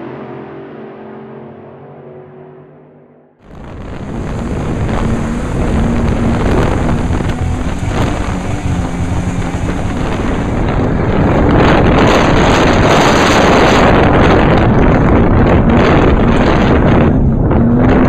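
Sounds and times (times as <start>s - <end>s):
race car engine roaring: 0.0s - 18.0s
wind buffeting microphone: 3.4s - 18.0s.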